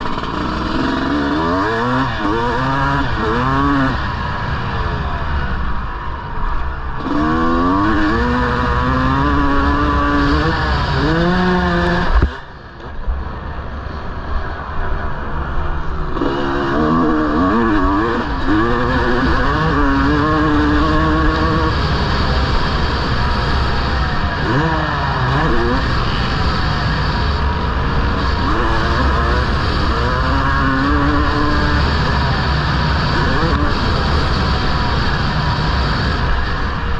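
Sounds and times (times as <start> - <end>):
motocross engine revving: 0.0 - 5.6, 6.9 - 12.5, 16.0 - 36.9.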